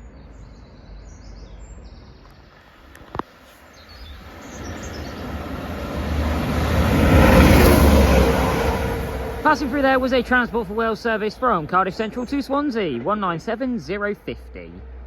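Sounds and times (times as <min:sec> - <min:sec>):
faint birdsong: 0:00.0 - 0:14.1
diesel train passing: 0:02.8 - 0:15.0.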